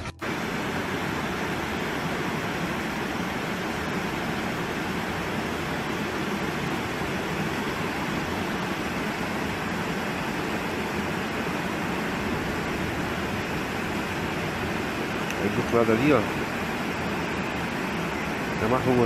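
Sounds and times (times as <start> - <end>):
fast-flowing floodwater: 0.0 - 19.0
heavy rain: 0.0 - 19.0.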